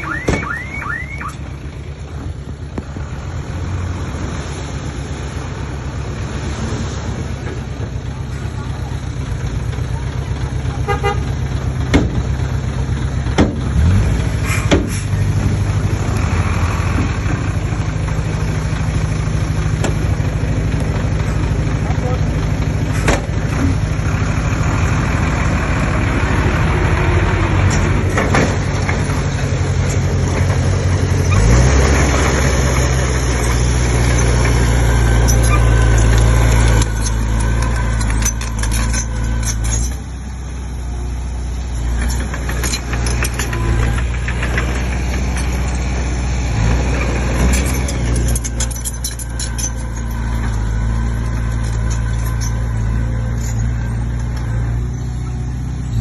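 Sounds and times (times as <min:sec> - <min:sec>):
bulldozer diesel engine working: 0:00.0 - 0:56.0.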